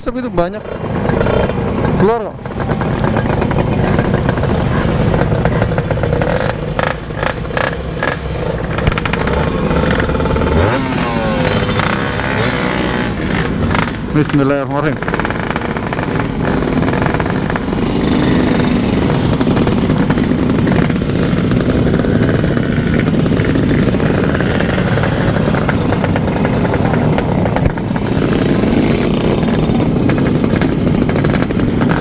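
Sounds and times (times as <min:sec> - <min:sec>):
two-stroke motorcycle engine: 0:00.0 - 0:32.0.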